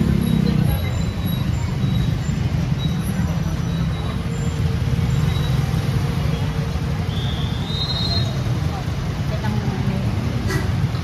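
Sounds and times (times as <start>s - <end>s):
passing vehicles rumble: 0.0s - 11.0s
voices in background: 0.0s - 11.0s.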